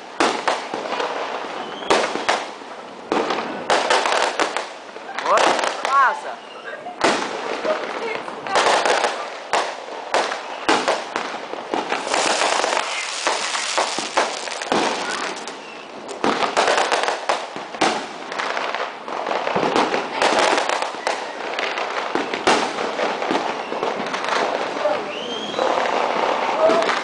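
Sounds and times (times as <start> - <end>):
fireworks bangs and crackling: 0.0 - 6.2, 7.0 - 27.0.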